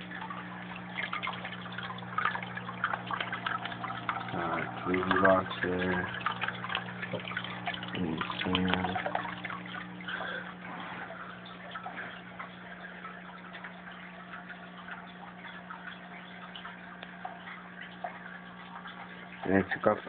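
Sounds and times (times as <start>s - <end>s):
aquarium filter humming: 0.0s - 20.0s
water trickling and dripping: 0.0s - 20.0s.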